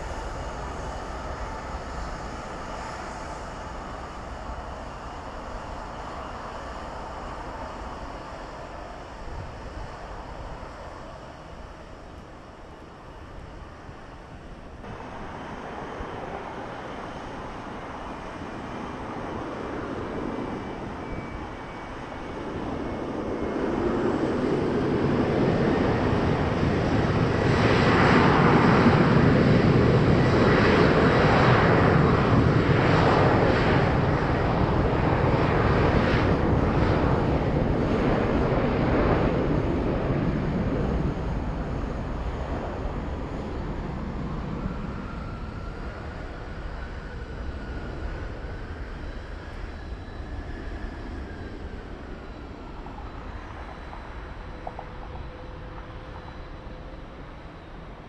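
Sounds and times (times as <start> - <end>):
jet engines at takeoff thrust: 0.0 - 58.0.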